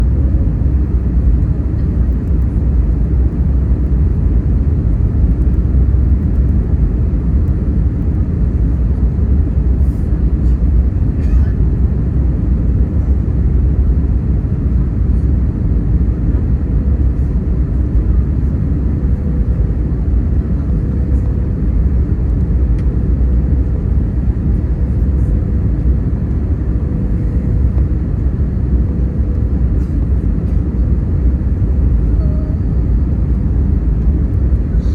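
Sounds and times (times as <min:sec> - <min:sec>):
airliner cabin engine roar: 0:00.0 - 0:34.9
faint steady hum: 0:00.0 - 0:34.9.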